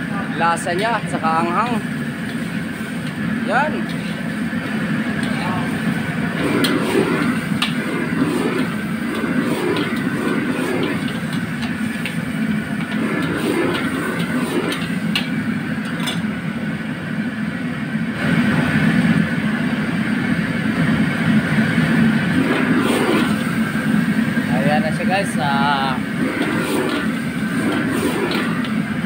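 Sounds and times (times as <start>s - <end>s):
gas wok burner rushing: 0.0s - 29.0s
crabs sizzling in a wok: 1.0s - 16.4s, 21.0s - 29.0s.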